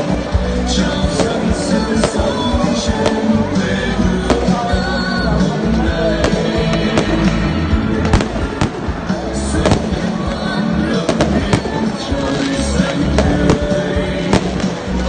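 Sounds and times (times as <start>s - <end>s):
fireworks bangs: 0.0s - 5.1s, 6.2s - 15.0s
loud music: 0.0s - 15.0s.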